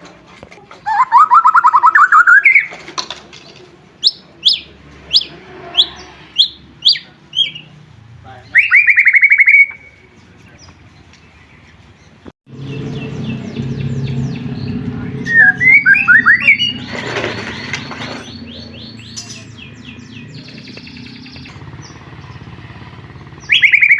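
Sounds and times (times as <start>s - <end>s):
songbird trilling and whistling: 0.8s - 2.8s, 4.0s - 7.8s, 8.4s - 11.8s, 12.6s - 23.9s.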